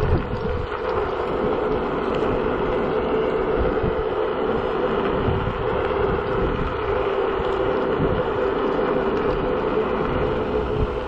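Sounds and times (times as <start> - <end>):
electric scooter motor whine: 0.0 - 11.0
road rumble: 0.0 - 11.0
wind: 0.0 - 11.0.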